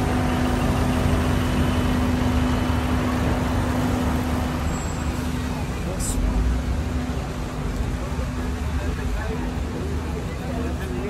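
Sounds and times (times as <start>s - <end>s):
bus engine humming past: 0.0s - 11.0s
traffic rumble: 0.0s - 11.0s.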